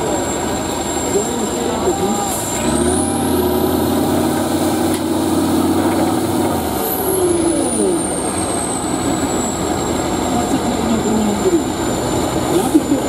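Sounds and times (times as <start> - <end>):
diesel truck engine working hard: 0.0 - 13.0.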